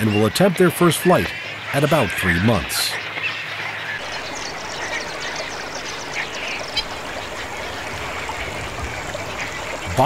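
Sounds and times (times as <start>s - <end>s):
background wash: 0.0s - 10.0s
waterbird calls: 0.0s - 10.0s.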